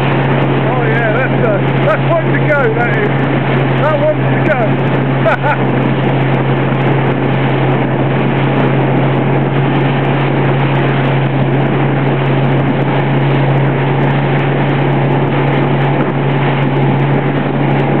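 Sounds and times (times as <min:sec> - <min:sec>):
motorboat engine running: 0:00.0 - 0:18.0
water noise: 0:00.0 - 0:18.0
wind noise: 0:00.0 - 0:18.0.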